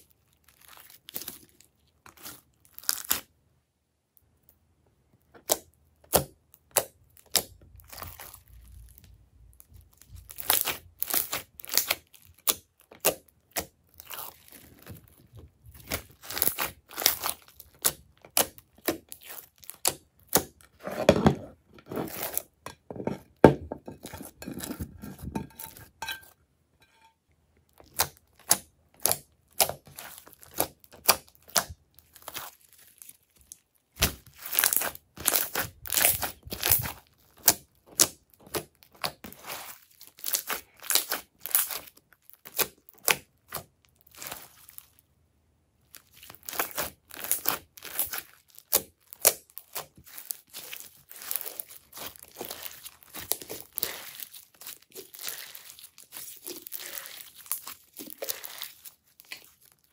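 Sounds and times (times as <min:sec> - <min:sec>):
slime crackling and popping: 0:00.0 - 0:03.3, 0:05.4 - 0:20.8, 0:27.7 - 0:45.0, 0:45.8 - 0:59.9.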